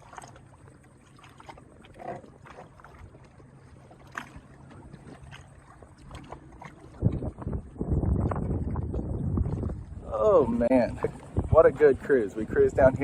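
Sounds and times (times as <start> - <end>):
water splashes: 0.0 - 13.0
watercraft engine idling: 0.0 - 13.0.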